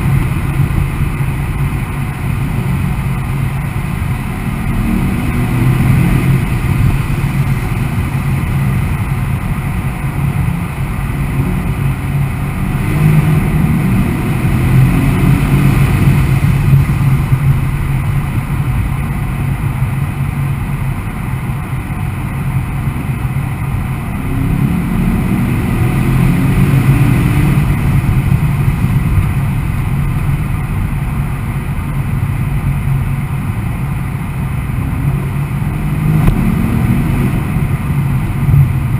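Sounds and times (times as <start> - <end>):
car engine at speed: 0.0 - 38.9
tyre and wind noise: 0.0 - 38.9.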